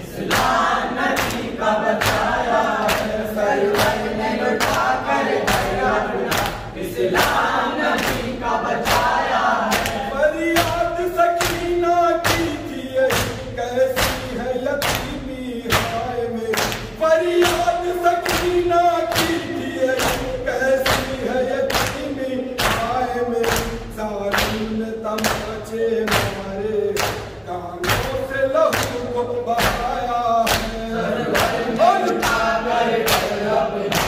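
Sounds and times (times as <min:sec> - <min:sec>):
lament sung by voices: 0:00.0 - 0:34.0
men slapping chests in unison: 0:00.0 - 0:34.0.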